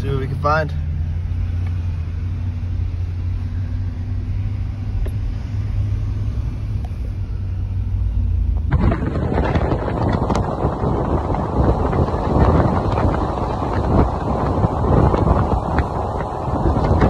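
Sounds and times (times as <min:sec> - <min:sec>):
pickup truck engine rumble: 0:00.0 - 0:17.0
road noise: 0:00.0 - 0:17.0.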